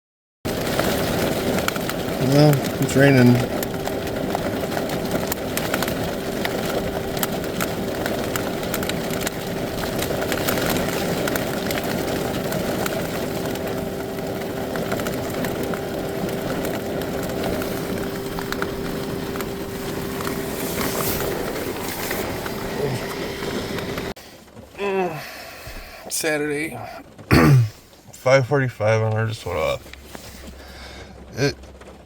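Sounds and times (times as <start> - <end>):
rain on a car roof: 0.4 - 32.0
steady hum: 0.5 - 27.8.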